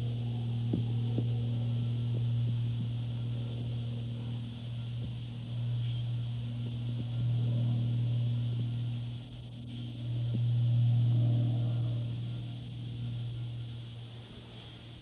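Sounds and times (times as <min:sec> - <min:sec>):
low drone: 0:00.0 - 0:15.0.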